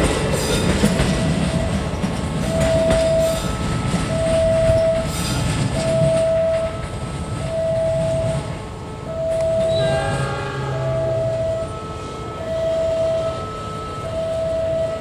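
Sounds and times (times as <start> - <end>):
level-crossing alarm beeping: 0.0 - 15.0
passing train rumbling: 0.0 - 15.0
train horn chord: 2.5 - 15.0.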